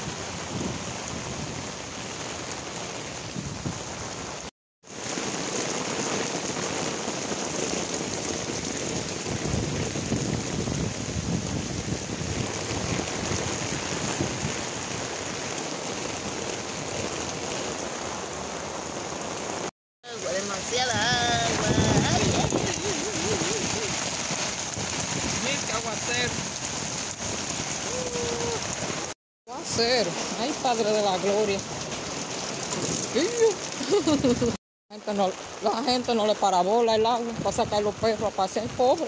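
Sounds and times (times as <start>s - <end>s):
heavy rain on pavement: 0.0s - 39.0s.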